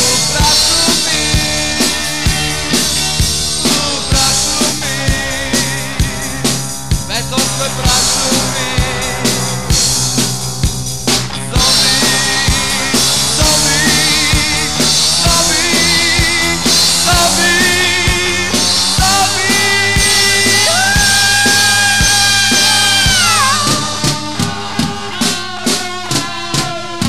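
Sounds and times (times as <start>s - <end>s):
drum hits: 0.0s - 26.3s
rock band playing: 0.0s - 27.0s.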